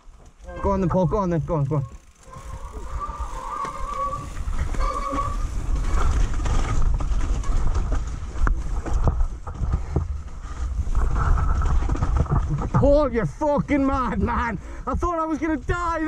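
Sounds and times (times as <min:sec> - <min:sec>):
bike knocking and rattling: 0:00.0 - 0:16.0
low rumble of wind: 0:00.0 - 0:16.0.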